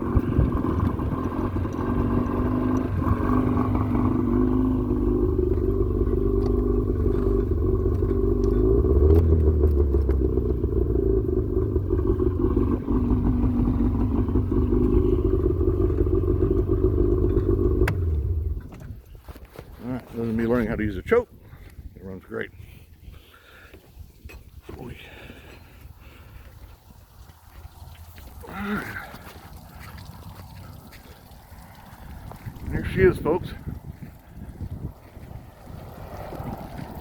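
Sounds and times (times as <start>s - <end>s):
outboard motor running: 0.0s - 21.8s, 24.6s - 37.0s.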